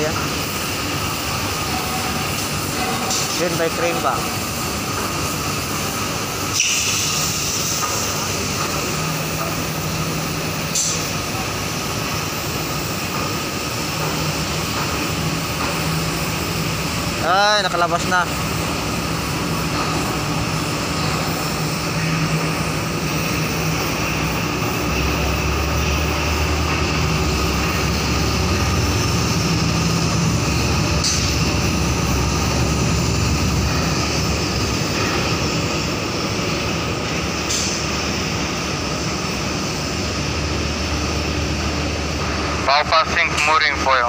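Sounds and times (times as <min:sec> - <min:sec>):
ship engines droning: 0:00.0 - 0:44.0.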